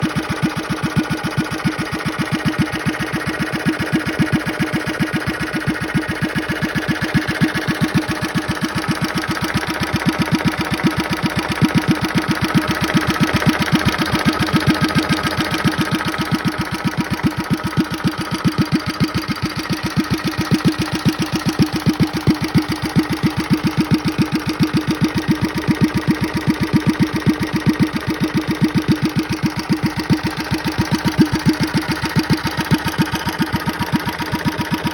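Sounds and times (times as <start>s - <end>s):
small engine running: 1.9s - 34.9s.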